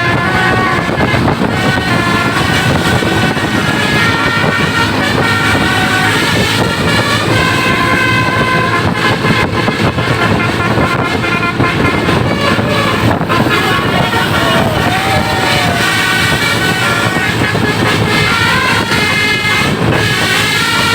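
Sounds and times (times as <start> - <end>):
bus engine rumble: 0.0 - 20.9
musical bus horn tune: 0.0 - 20.9
road traffic: 0.0 - 20.9.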